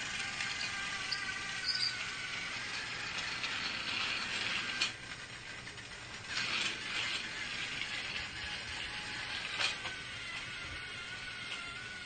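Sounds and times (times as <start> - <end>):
geared mechanism whirring and clicking: 0.0 - 12.0.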